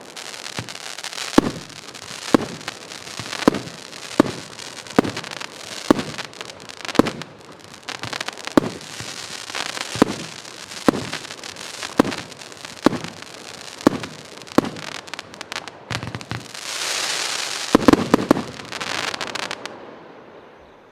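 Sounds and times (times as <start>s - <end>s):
firework bangs: 0.0s - 19.8s
firework crackling: 0.0s - 19.8s
loud hissing crackle: 0.0s - 20.0s.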